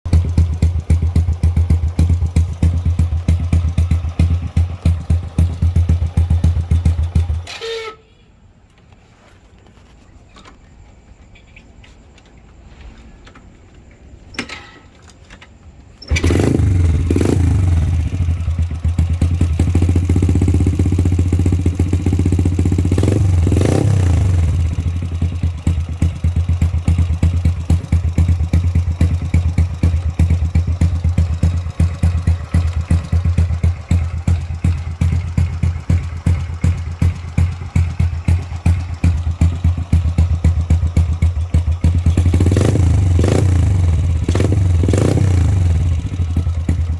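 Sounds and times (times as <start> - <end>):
motorcycle engine idling: 0.1 - 7.5, 16.0 - 46.9.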